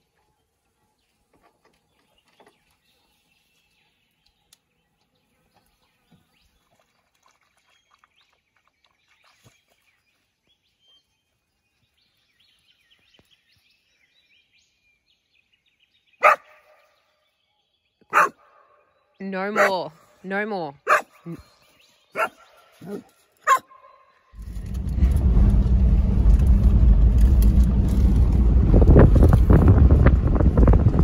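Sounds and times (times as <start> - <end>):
distant birdsong: 0.0 - 25.0.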